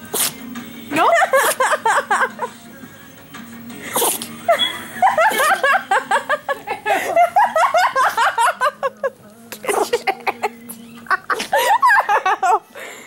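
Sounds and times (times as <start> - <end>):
person laughing hard: 1.0 - 2.6, 3.9 - 13.0.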